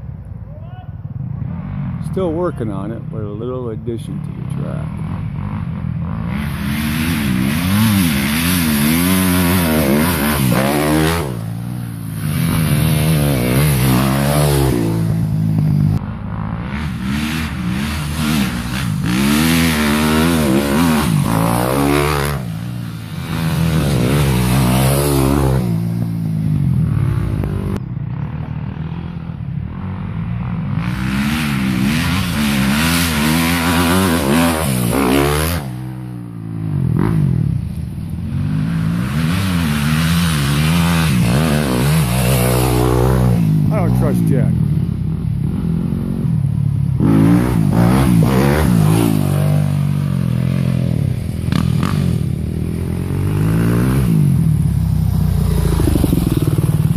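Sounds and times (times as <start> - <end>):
dirt bike engine revving: 1.2 - 56.9.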